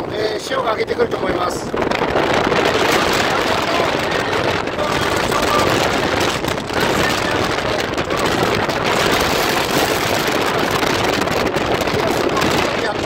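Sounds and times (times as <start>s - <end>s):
wind buffeting microphone: 0.0s - 13.0s
surf breaking on beach: 0.3s - 13.0s.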